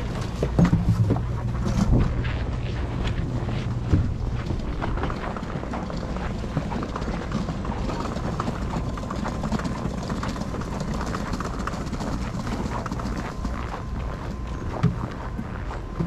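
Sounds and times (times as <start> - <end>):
footsteps crunching on snow: 0.0 - 16.0
wind rumble on microphone: 0.0 - 16.0.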